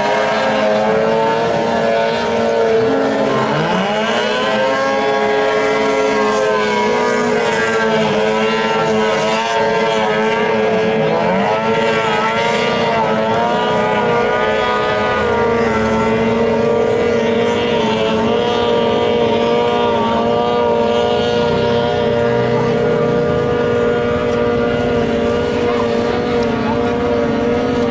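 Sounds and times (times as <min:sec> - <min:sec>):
racing boat engines droning: 0:00.0 - 0:27.9.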